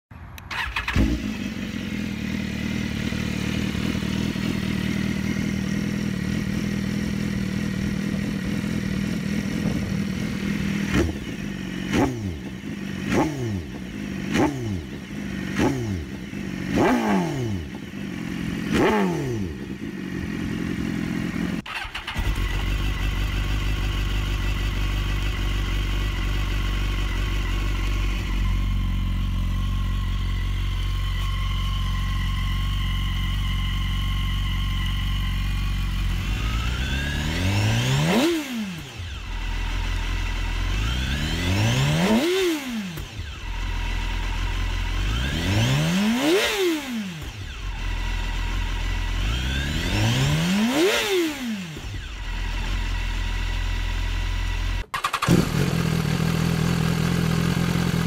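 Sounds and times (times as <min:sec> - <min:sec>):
motorcycle engine idling and revving: 0:00.0 - 0:58.0
steady motorcycle engine note: 0:00.4 - 0:58.0.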